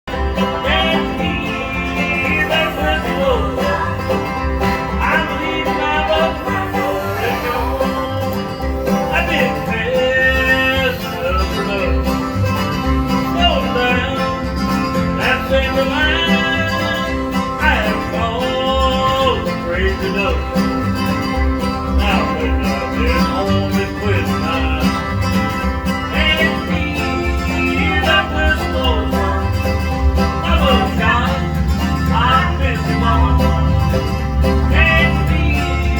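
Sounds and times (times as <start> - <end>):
bluegrass band playing: 0.0 - 35.9
sliding lead melody: 0.1 - 35.9.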